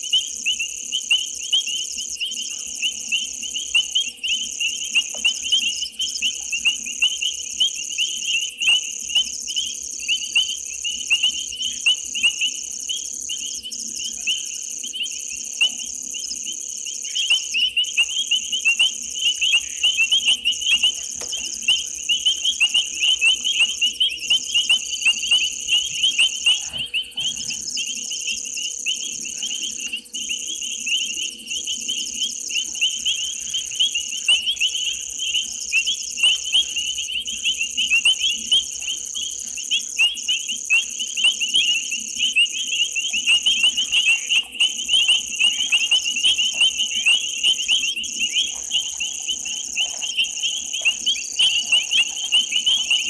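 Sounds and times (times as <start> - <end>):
frogs chirping: 0.0 - 53.0
insect trill: 0.0 - 53.0.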